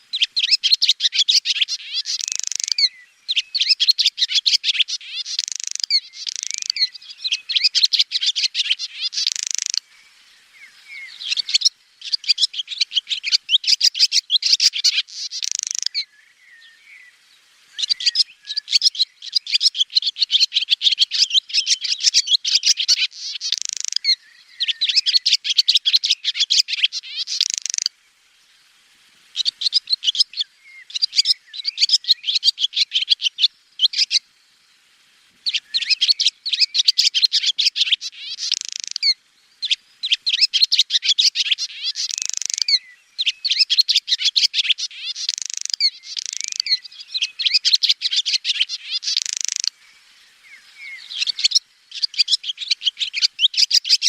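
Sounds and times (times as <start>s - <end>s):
swallow twittering: 0.0s - 27.9s, 29.3s - 34.2s, 35.4s - 54.0s.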